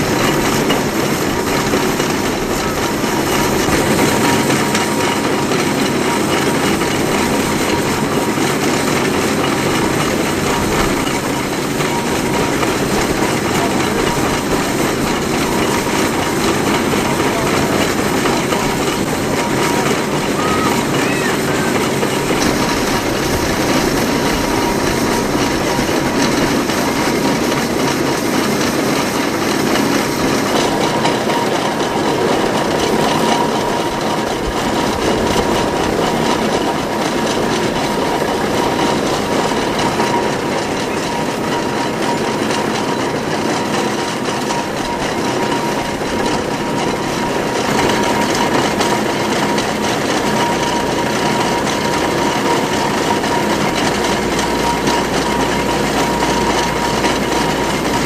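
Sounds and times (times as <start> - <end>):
steam engine winch clatter and rumble: 0.0 - 58.0.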